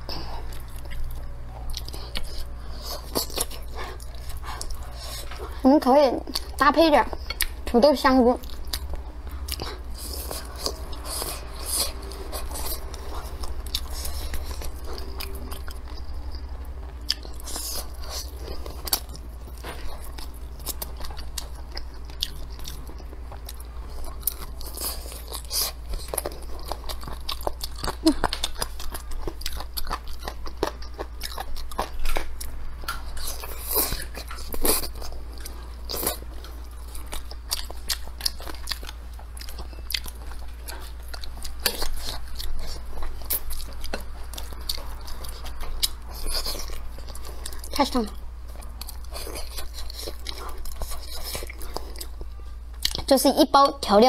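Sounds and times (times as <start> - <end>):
chewing and biting chicken: 0.0 - 53.1
steady low hum: 0.0 - 54.0.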